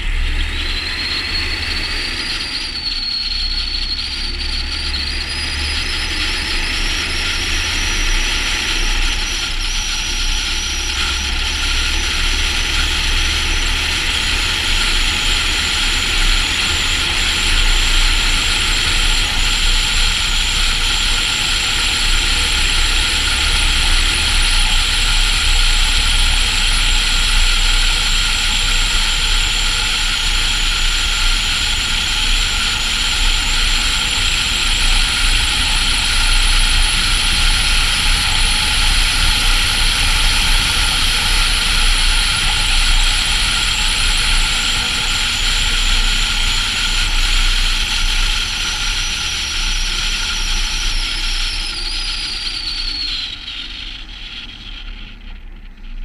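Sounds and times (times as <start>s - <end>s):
diesel truck engine running: 0.0s - 51.5s
road and wind noise: 0.0s - 52.5s.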